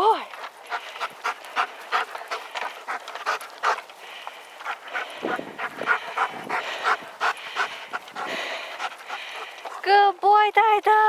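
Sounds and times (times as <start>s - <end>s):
dog panting: 0.3s - 10.3s.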